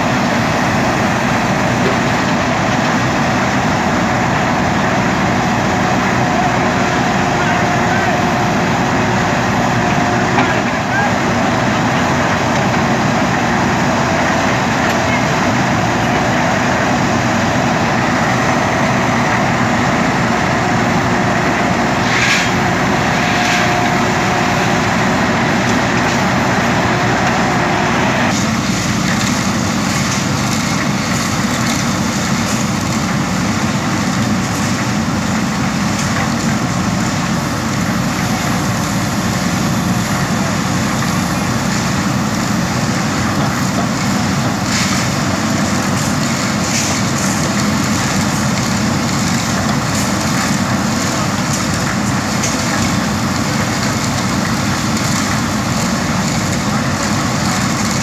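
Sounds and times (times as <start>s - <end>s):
backhoe digging topsoil: 0.0s - 58.0s
diesel engine running under load: 0.0s - 58.0s.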